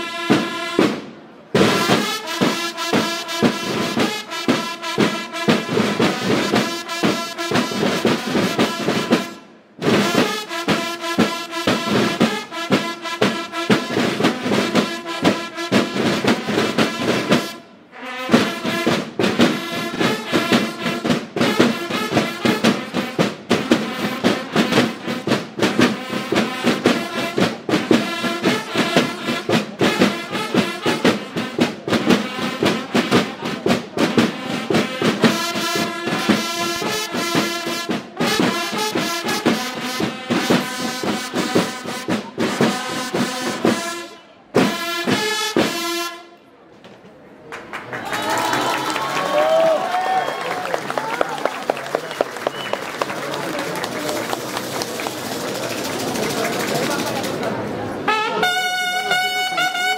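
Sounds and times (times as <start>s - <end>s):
rapid field drum strokes: 0.0s - 17.6s, 18.3s - 44.0s, 44.6s - 45.9s, 54.3s - 59.9s
bugles holding notes: 0.0s - 46.3s, 49.6s - 59.9s.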